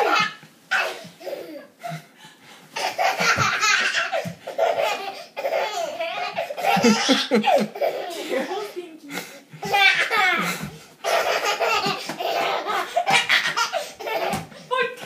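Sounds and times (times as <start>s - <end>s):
baby laughing: 0.0s - 1.7s, 2.8s - 8.9s, 9.6s - 14.6s.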